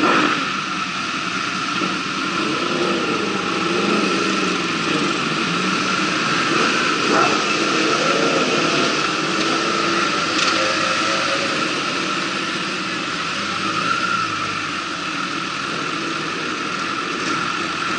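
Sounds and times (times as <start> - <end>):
motorcycle engines at low revs: 0.0 - 17.9.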